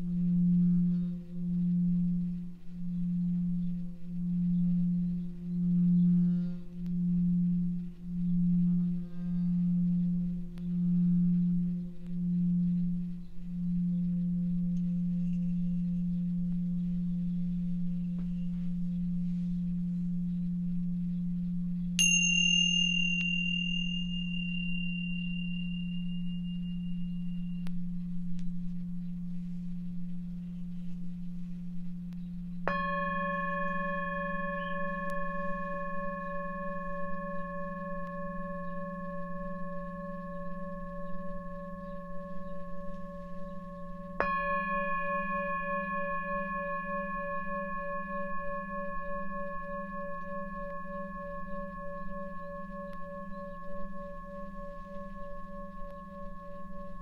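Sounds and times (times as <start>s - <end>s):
higher singing bowl struck: 0.0s - 57.0s
low singing bowl humming: 0.0s - 57.0s
small cymbals ringing: 0.0s - 57.0s.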